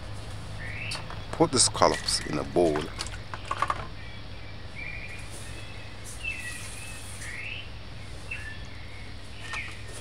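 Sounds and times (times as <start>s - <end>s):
faint bird chirps: 0.6s - 10.0s.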